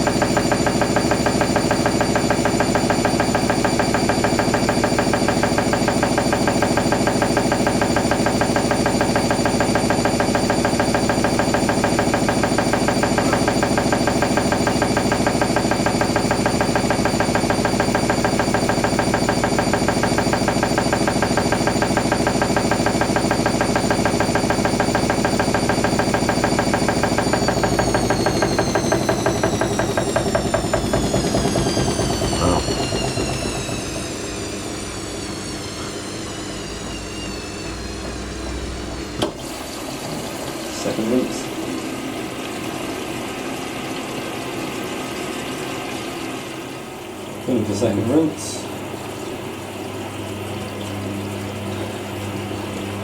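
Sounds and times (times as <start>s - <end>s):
washing machine drum spinning: 0.0s - 48.0s, 48.7s - 53.0s.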